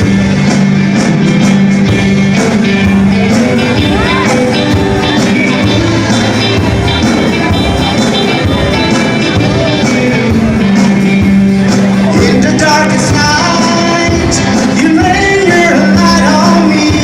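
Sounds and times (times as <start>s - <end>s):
band playing instrumental: 0.0s - 17.0s.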